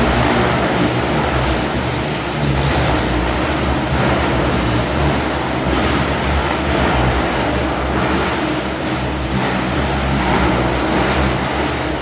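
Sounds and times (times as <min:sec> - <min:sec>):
helicopter rotor blades rushing: 0:00.0 - 0:12.0.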